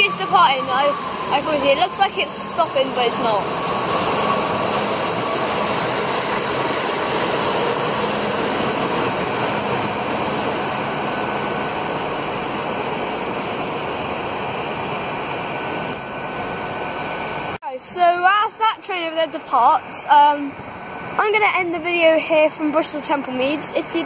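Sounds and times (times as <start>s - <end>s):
train wheels and engine rumbling: 0.0s - 24.0s.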